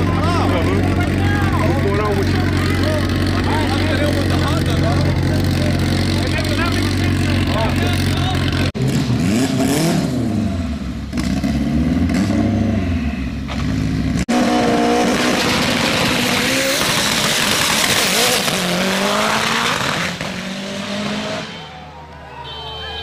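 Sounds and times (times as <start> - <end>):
car accelerating away: 0.0 - 21.5
car engine revving: 0.0 - 21.6.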